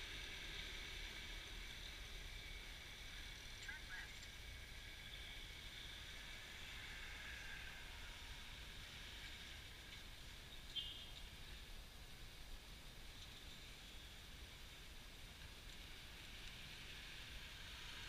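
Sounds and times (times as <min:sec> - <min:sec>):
street rumble and hiss: 0:00.0 - 0:18.0.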